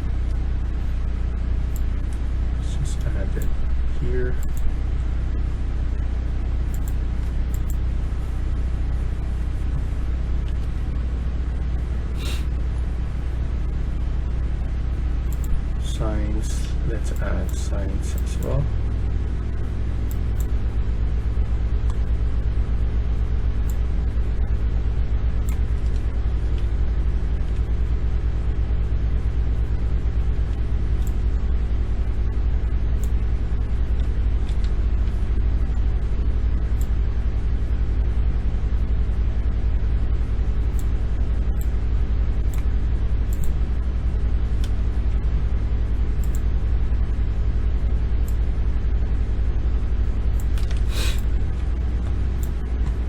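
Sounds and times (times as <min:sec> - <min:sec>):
low humming rumble: 0:00.0 - 0:53.0.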